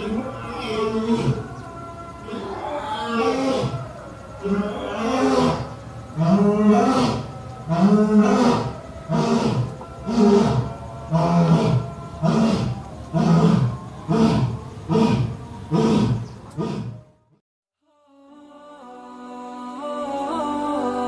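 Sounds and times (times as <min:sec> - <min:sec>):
large animal roaring: 0:00.0 - 0:17.1.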